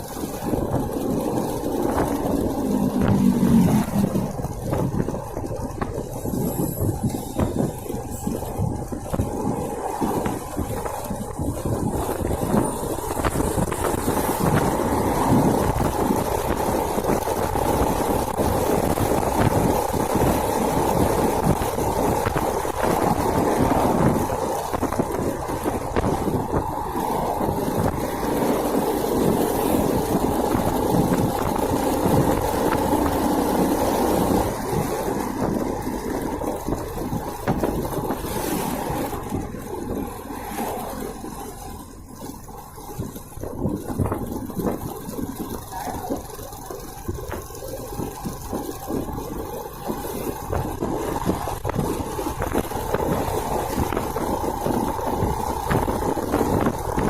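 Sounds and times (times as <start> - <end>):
motorcycle engine running: 0.0 - 57.0
road noise: 0.0 - 57.0
rushing wind: 0.0 - 57.0.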